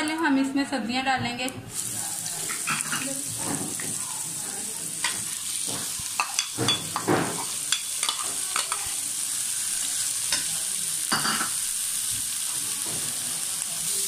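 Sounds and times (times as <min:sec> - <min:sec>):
potatoes sizzling in hot oil: 0:01.7 - 0:14.0.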